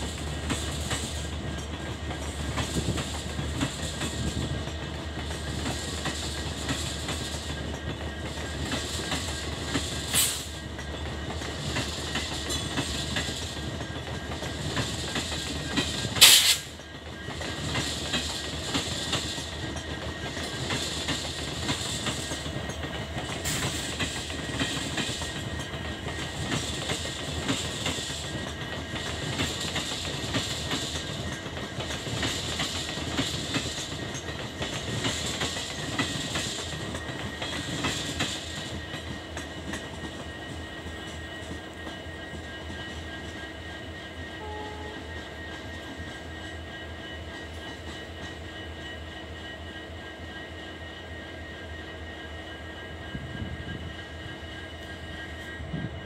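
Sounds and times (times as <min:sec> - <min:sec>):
train rumble: 0:00.0 - 0:56.0
train wheels clacking over rail joints: 0:00.0 - 0:56.0.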